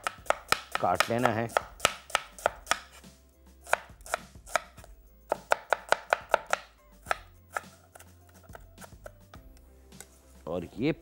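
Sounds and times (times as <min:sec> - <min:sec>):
knife chopping onion on board: 0:00.0 - 0:10.2.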